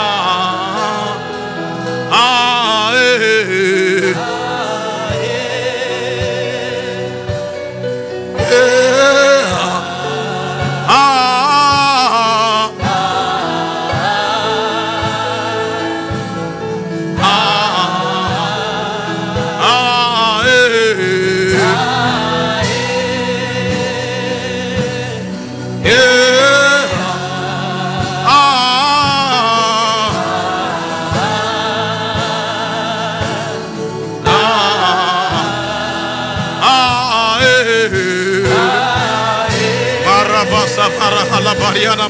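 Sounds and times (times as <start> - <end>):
gospel-style singing: 0.0 - 42.0
held backing chords: 0.0 - 42.0.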